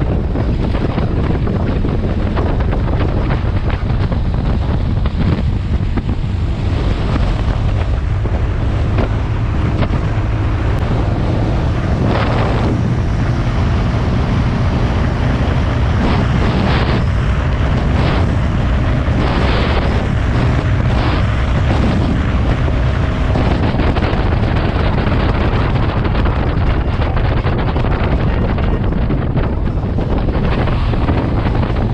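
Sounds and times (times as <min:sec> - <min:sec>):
motorcycle engine and road rumble: 0:00.0 - 0:31.9
wind buffeting microphone: 0:00.0 - 0:31.9.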